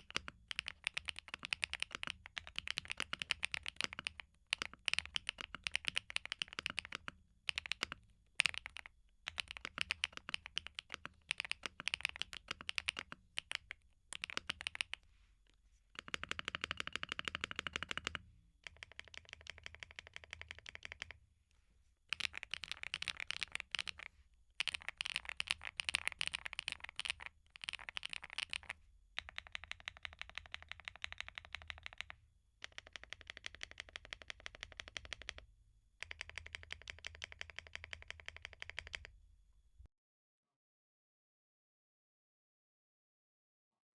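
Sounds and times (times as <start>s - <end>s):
mechanical keyboard typing: 0.0s - 15.0s, 16.0s - 21.2s, 22.1s - 35.4s, 36.0s - 39.2s.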